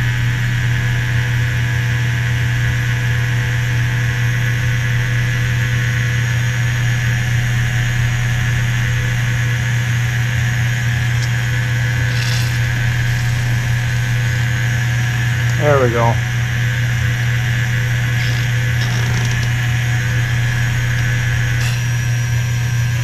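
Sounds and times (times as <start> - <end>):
electric fuel pump humming: 2.0 - 23.0.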